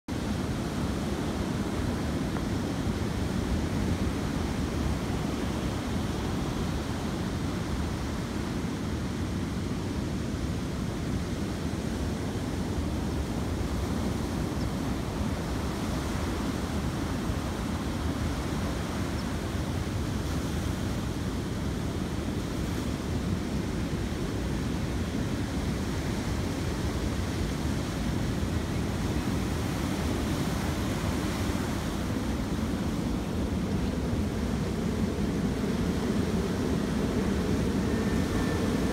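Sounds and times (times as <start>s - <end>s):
ocean surf washing over sand: 0.1s - 38.9s.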